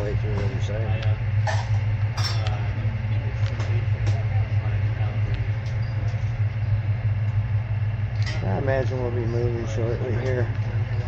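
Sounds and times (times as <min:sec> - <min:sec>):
faint voices: 0:00.0 - 0:11.0
train humming: 0:00.0 - 0:11.0.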